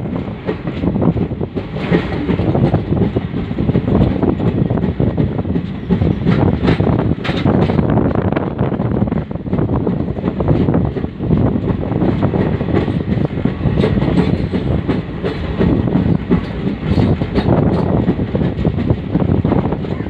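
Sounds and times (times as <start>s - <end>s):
train rumble: 0.0s - 20.0s
wheels clattering over rails: 0.0s - 20.0s.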